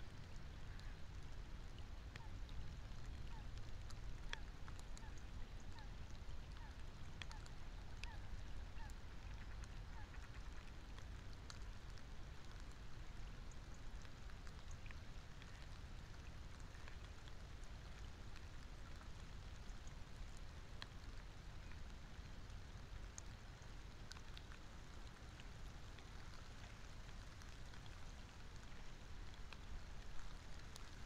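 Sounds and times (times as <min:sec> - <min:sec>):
rain falling on water: 0:00.0 - 0:31.0.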